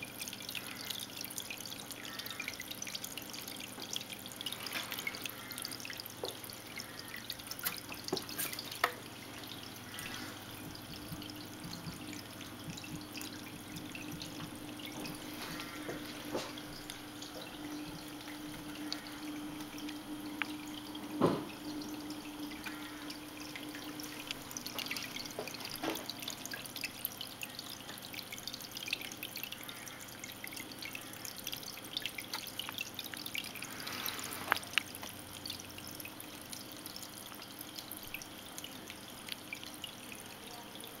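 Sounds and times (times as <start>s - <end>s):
low steady hum: 0.0s - 41.0s
water dripping and trickling: 0.0s - 41.0s.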